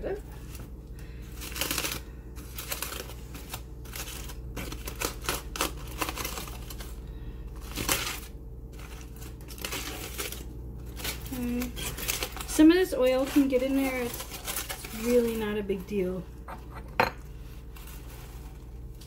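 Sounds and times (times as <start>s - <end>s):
aluminium foil crinkling: 0.1s - 16.3s, 17.3s - 19.0s.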